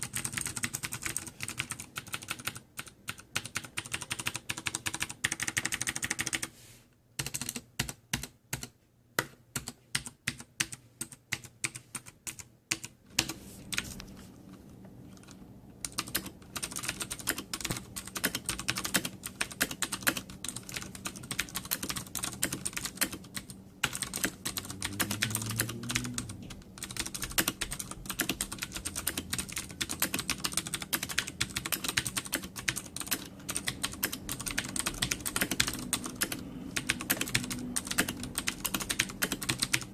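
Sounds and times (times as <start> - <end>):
clicky mechanical keyboard typing: 0.0 - 6.5, 7.2 - 14.0, 15.1 - 39.9.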